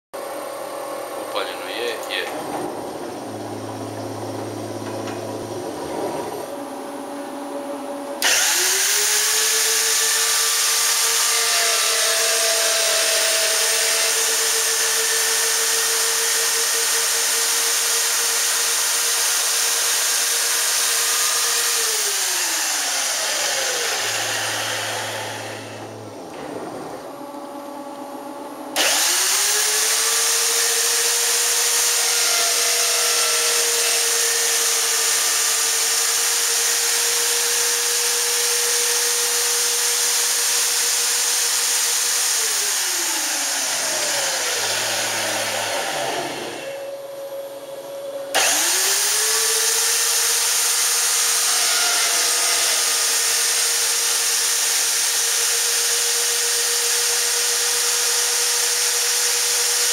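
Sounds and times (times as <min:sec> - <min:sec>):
router spindle motor whine: 0:00.2 - 0:59.9.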